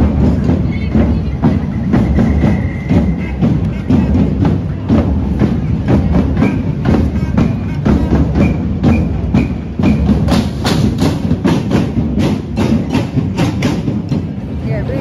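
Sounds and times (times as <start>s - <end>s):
crowd hubbub: 0.0s - 15.0s
marching drums beating: 0.0s - 15.0s.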